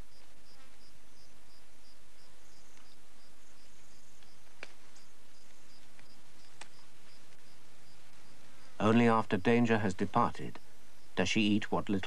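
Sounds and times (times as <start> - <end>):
insect chirping: 0.0 - 11.6.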